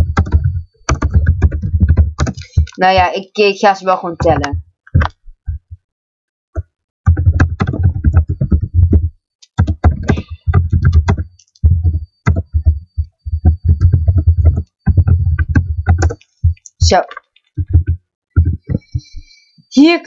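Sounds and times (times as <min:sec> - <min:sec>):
fast keyboard typing: 0:00.0 - 0:03.2, 0:04.1 - 0:05.1, 0:06.6 - 0:19.3.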